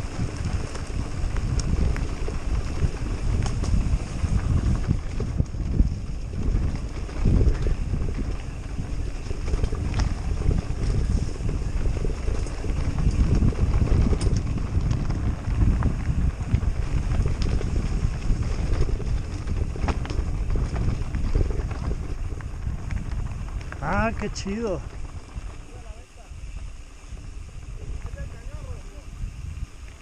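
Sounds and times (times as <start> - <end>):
bike tyres crunching over stones: 0.0 - 30.0
wind buffeting microphone: 0.0 - 30.0.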